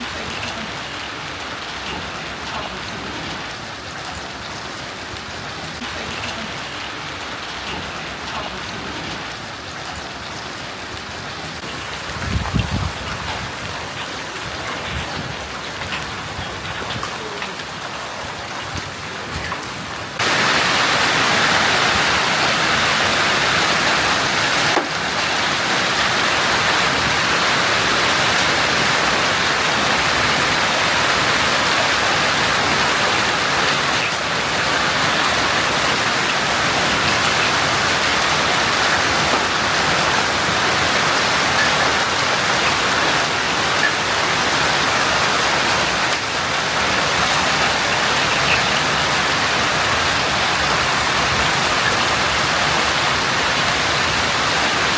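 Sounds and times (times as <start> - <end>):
hail and heavy rain pelting: 0.0 - 54.9.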